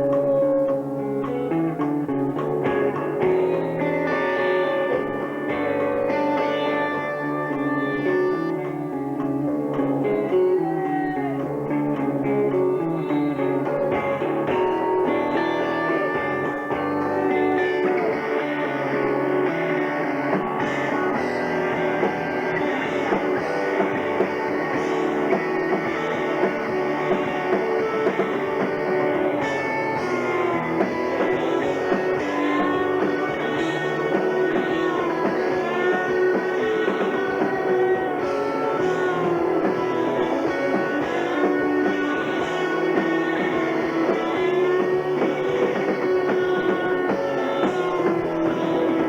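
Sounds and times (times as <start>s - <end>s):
electric guitar: 0.0s - 49.0s
rock band playing: 0.0s - 49.0s.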